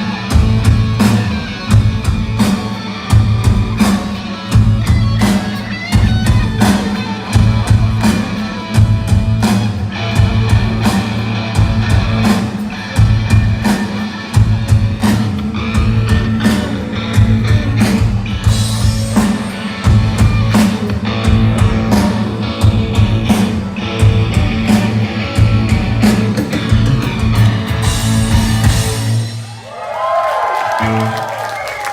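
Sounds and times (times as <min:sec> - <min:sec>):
recorded rock music: 0:00.0 - 0:29.6.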